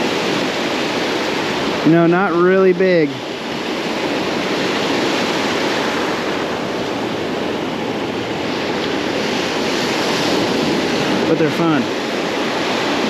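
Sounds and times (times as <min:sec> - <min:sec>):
ocean surf washing on beach: 0:00.0 - 0:13.0
wind on microphone: 0:00.0 - 0:13.0.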